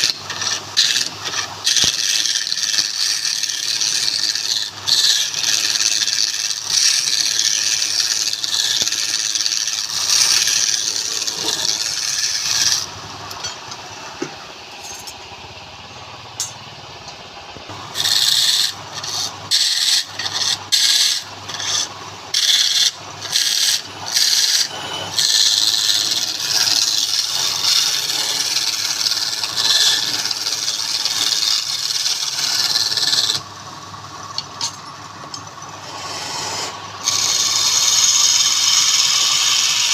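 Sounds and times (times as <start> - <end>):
wood lathe scraping: 0.0 - 16.6, 17.6 - 39.9.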